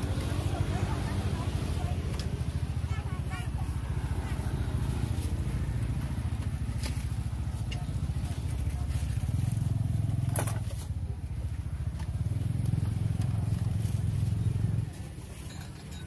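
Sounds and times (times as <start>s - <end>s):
motorbike engine puttering: 0.0s - 16.0s.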